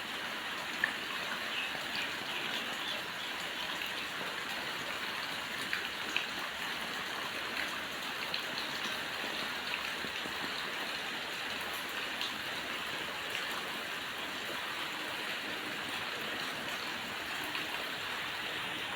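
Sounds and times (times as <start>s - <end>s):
rushing water: 0.0s - 18.9s
small drip-like ticks: 0.5s - 18.6s.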